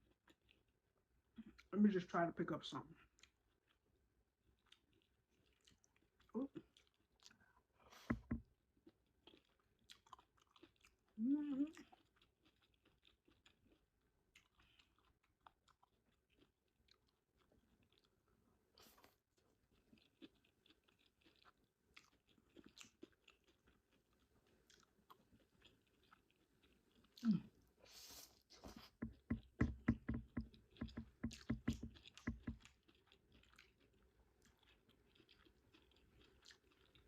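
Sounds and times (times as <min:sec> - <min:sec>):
chewing food: 0:00.0 - 0:01.8, 0:02.9 - 0:37.0.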